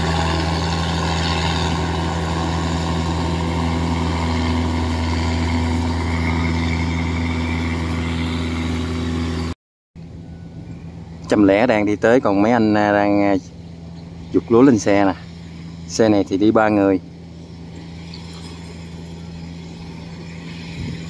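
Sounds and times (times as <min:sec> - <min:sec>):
combine harvester diesel engine: 0:00.0 - 0:21.0.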